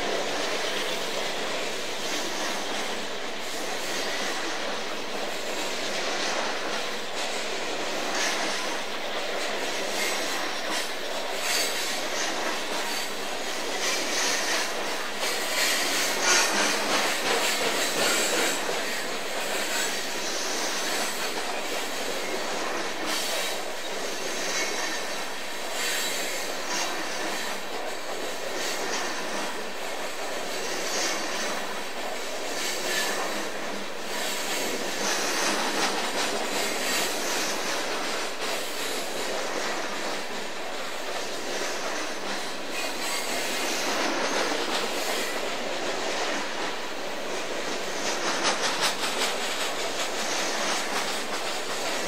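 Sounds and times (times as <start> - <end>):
wheels clattering on rail: 0.0 - 52.0.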